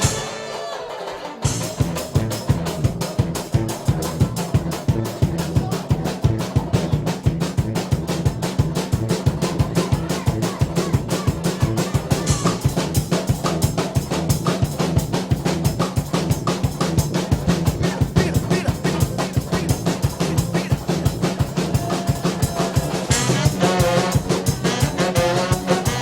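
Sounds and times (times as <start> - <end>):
brass band music: 0.0 - 26.0
drum kit beat: 0.0 - 26.0
low bass line: 1.5 - 26.0.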